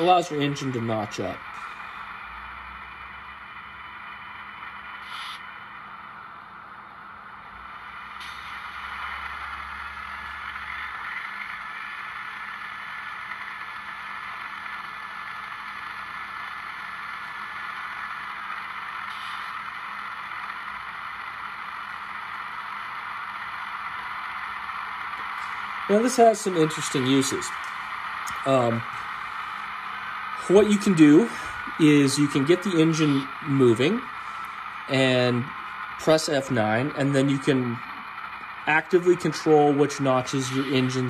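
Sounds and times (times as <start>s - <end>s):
model locomotive diesel engine sound: 0.0s - 41.0s.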